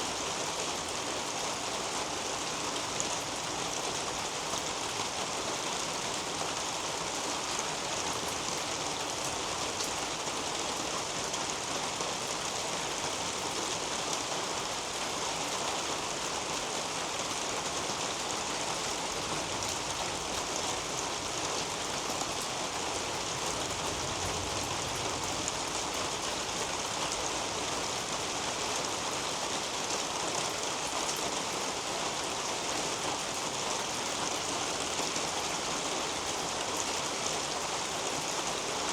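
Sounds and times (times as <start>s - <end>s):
rain hissing on leaves: 0.0s - 38.9s.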